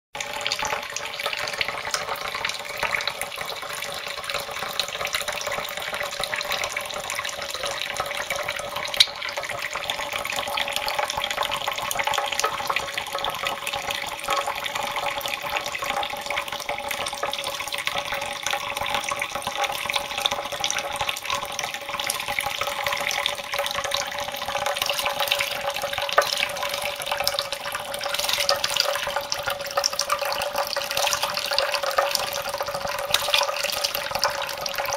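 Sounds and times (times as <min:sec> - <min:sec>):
tap water running into dish: 0:00.2 - 0:34.9.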